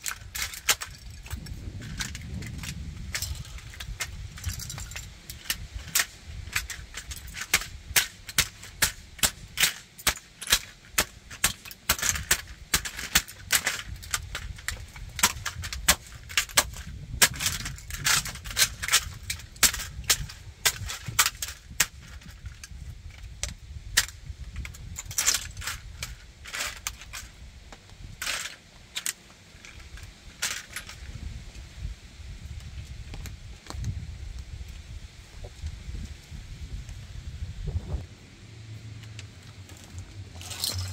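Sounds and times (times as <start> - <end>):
model truck crunching underfoot: 0.0 - 31.8, 37.7 - 40.9.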